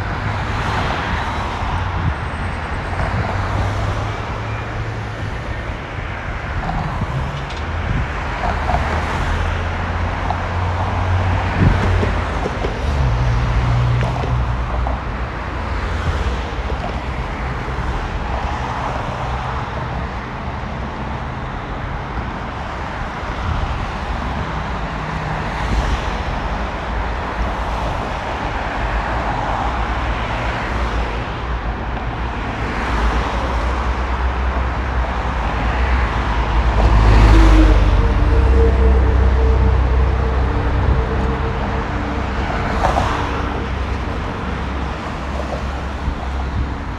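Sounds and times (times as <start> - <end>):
cars and vans driving past: 0.0 - 46.9.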